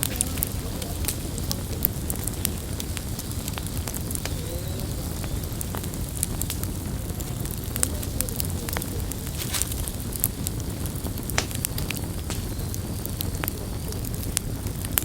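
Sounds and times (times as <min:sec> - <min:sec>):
campfire flames burning: 0:00.0 - 0:15.0
wood crackling and popping: 0:00.0 - 0:15.0.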